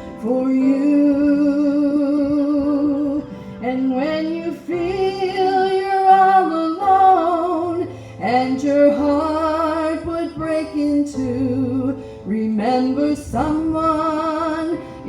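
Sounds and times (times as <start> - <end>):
backing accompaniment with bass: 0.0 - 15.0
woman singing gospel song: 0.0 - 15.0.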